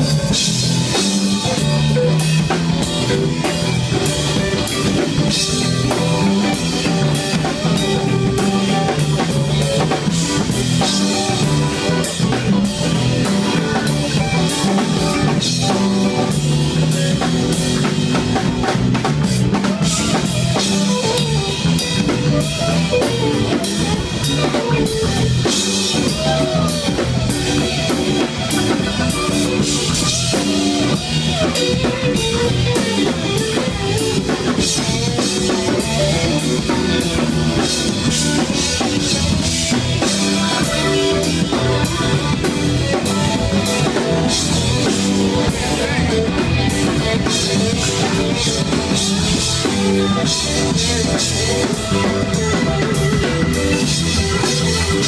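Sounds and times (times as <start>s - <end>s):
drum-kit groove: 0.0s - 55.0s
electric bass line: 0.0s - 55.0s
electric guitar: 0.0s - 55.0s.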